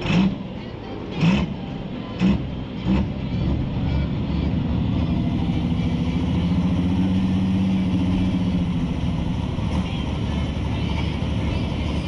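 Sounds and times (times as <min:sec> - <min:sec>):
tractor engine revving: 0:00.0 - 0:12.0.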